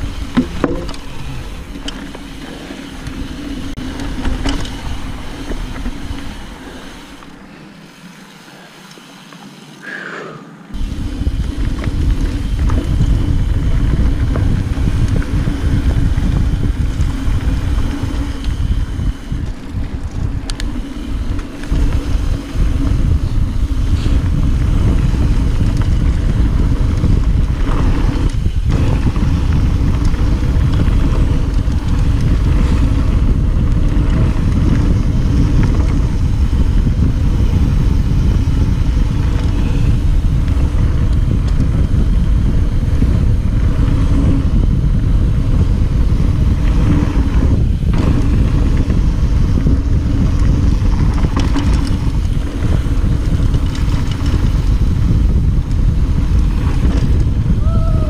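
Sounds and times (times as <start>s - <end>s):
wind buffeting microphone: 0.0s - 8.0s, 10.7s - 58.0s
bike rolling over dirt trail: 0.0s - 9.8s, 10.8s - 58.0s.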